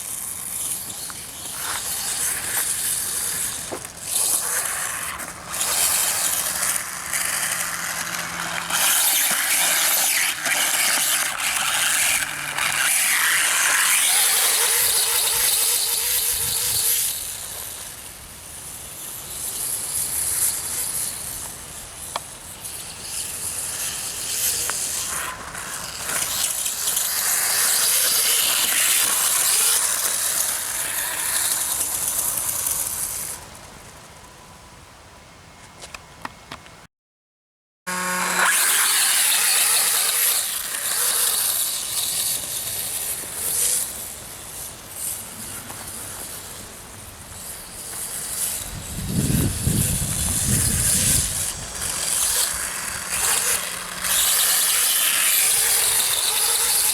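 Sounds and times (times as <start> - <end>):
electric motor whining high: 0.1 - 18.2, 19.0 - 33.4, 37.9 - 56.9.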